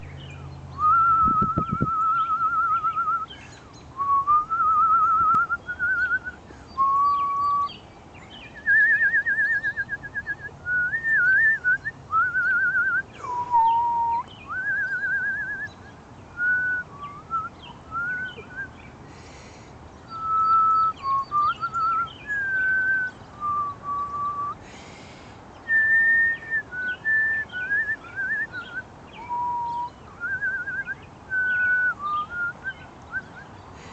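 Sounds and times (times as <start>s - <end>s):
faint birds chirping: 0.0s - 33.9s
person whistling a tune: 0.8s - 3.3s, 4.0s - 7.7s, 8.6s - 15.8s, 16.4s - 18.7s, 20.1s - 24.6s, 25.7s - 33.5s.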